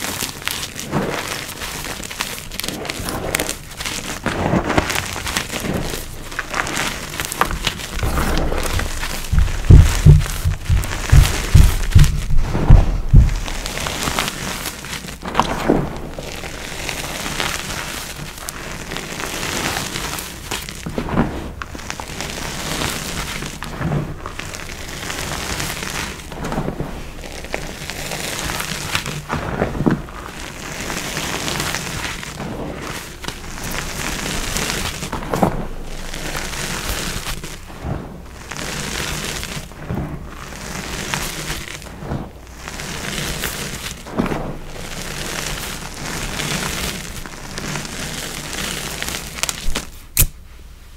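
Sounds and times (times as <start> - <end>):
powder blocks crunching: 0.0 - 50.2.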